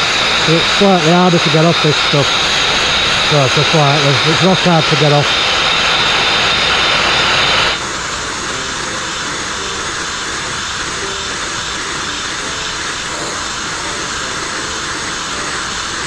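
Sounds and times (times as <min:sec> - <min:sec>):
sandblasting hiss: 0:00.0 - 0:16.0.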